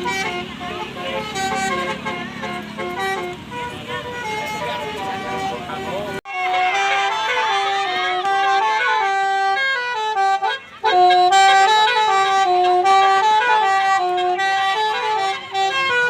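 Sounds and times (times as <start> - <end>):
musical bus horn melody: 0.0 - 16.0.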